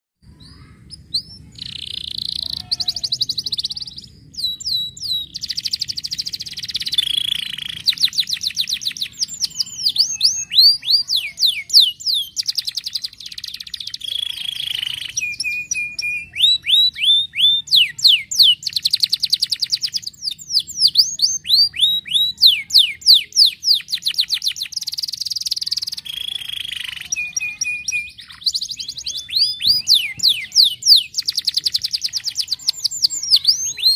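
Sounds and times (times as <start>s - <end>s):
canary singing: 0.2s - 33.9s.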